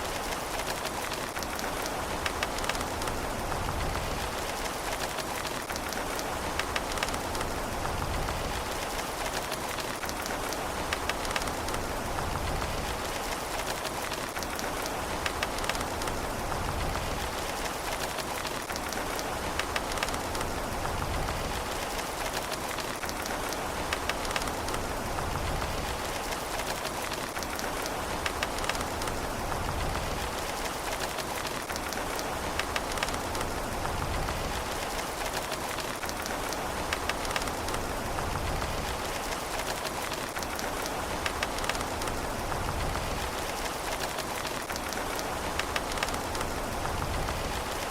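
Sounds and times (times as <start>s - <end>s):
raindrops ticking: 0.0s - 47.9s
steady rain falling: 0.0s - 47.9s.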